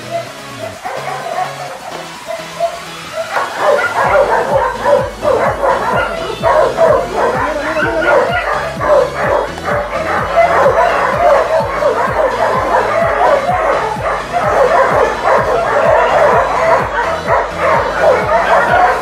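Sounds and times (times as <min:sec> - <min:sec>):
background music with steady beat: 0:00.0 - 0:19.0
many dogs barking and yelping: 0:00.0 - 0:19.0.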